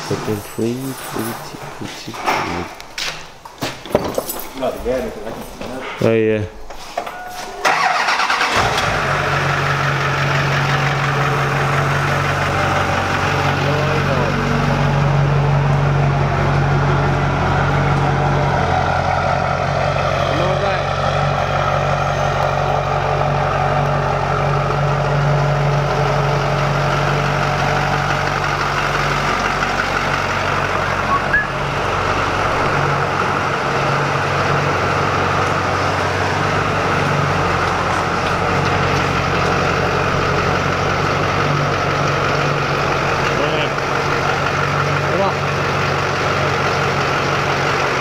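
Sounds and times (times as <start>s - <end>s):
diesel engine idling: 0.0s - 3.5s, 7.5s - 48.0s.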